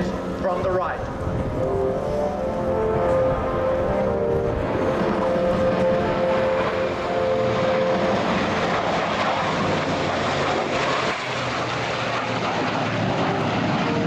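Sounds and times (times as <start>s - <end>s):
jet engine roar: 0.0s - 14.0s
propeller engine drone: 0.0s - 14.0s.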